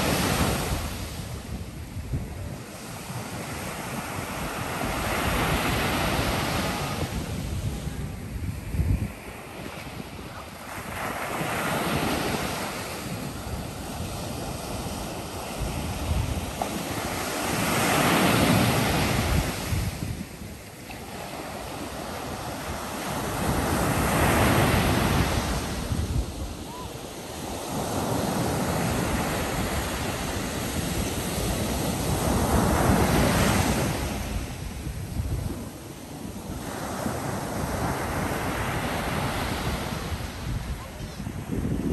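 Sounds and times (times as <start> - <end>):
surf breaking on beach: 0.0 - 41.9
wind buffeting microphone: 0.0 - 41.9.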